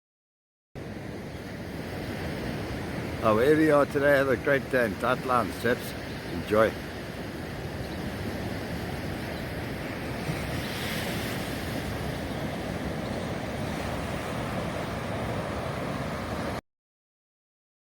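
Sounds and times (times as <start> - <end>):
ocean surf breaking on shore: 0.8 - 16.6
wind buffeting microphone: 0.8 - 16.6.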